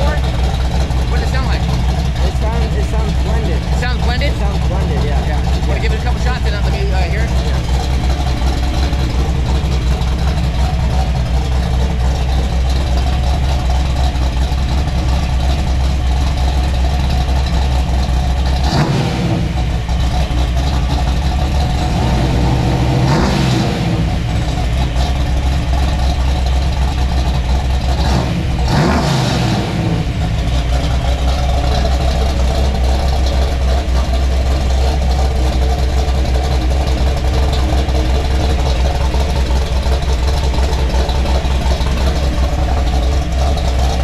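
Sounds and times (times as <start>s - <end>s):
car engine revving through exhaust: 0.0s - 44.0s.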